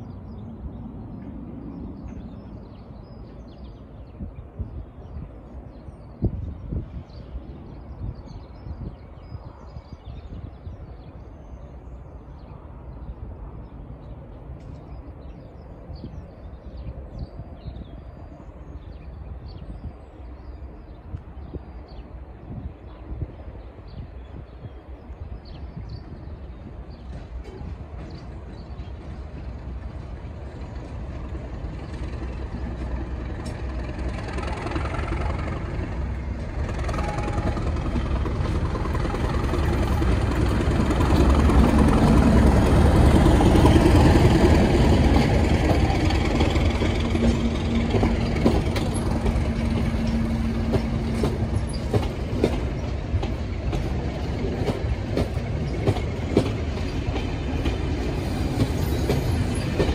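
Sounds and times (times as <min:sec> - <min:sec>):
diesel locomotive passing: 0:00.0 - 0:59.9.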